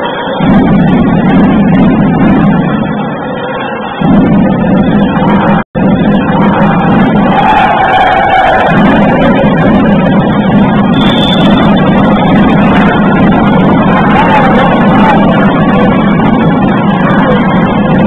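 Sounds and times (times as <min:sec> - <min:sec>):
crowd din in a hall: 0:00.0 - 0:18.0.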